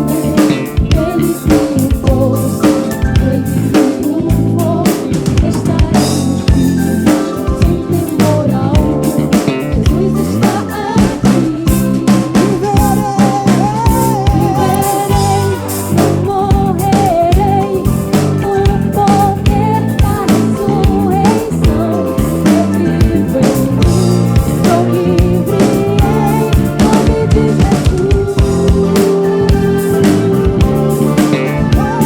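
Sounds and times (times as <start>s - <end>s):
person singing: 0.0s - 32.0s
soul band playing live: 0.0s - 32.0s.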